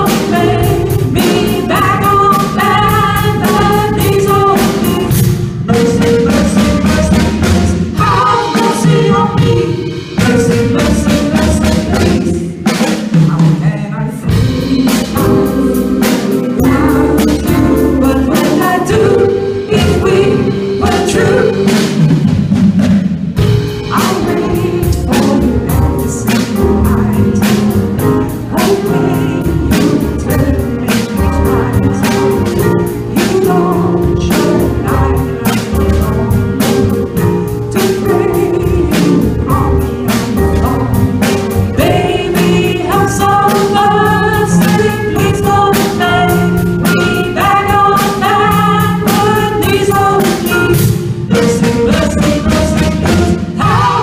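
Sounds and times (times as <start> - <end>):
person singing: 0.0 - 12.6, 13.2 - 21.8, 23.9 - 54.0
electronic keyboards: 0.0 - 12.7, 14.3 - 54.0
drum kit beat: 0.0 - 54.0.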